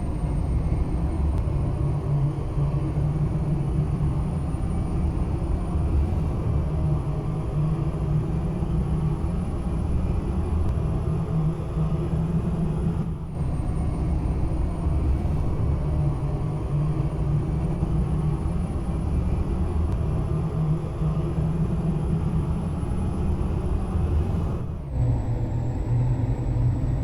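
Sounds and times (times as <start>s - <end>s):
truck engine and road rumble: 0.0s - 27.0s.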